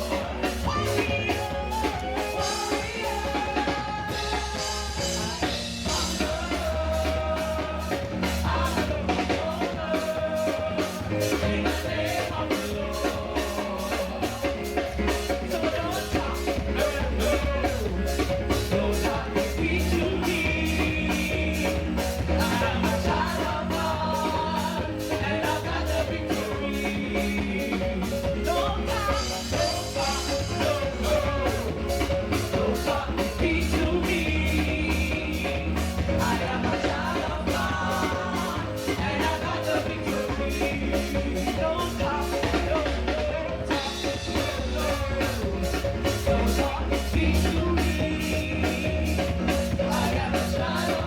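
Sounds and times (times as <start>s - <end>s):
drum kit steady beat: 0.0s - 51.0s
group singing worship music: 0.0s - 51.0s.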